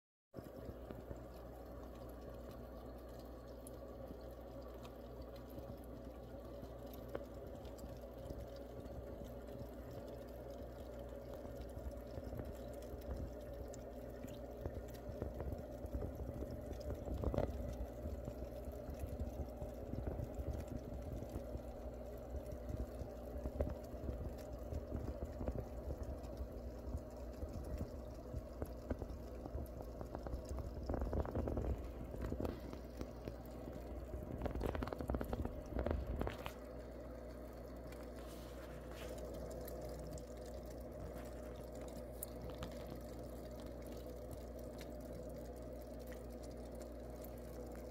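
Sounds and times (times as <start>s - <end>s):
air bubbles gurgling in water: 0.4s - 47.9s
steady hum: 0.4s - 47.9s.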